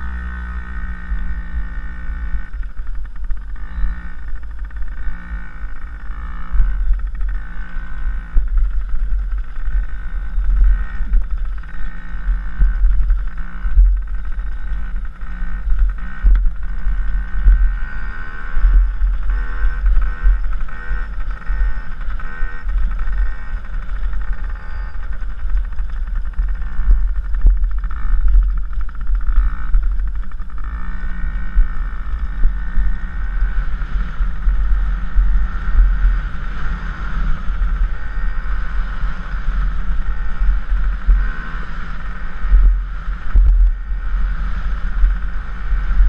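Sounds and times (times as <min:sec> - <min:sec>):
dirt bike engine revving: 0:00.0 - 0:46.0
wind rumble on microphone: 0:00.0 - 0:46.0.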